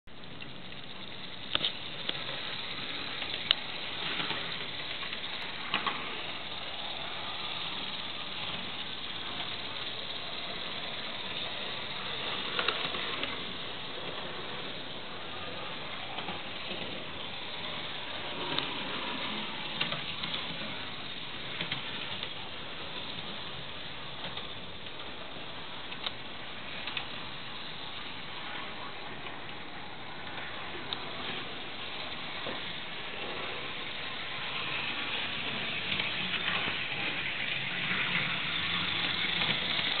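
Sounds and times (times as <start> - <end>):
model train motor whirring: 0.2 - 40.0.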